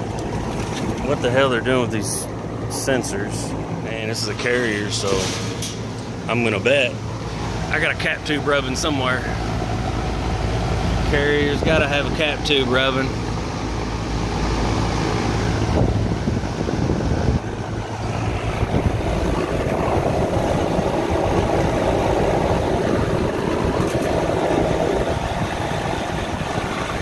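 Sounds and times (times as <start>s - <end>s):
hvac equipment running: 0.0s - 27.0s
low hum: 0.0s - 27.0s.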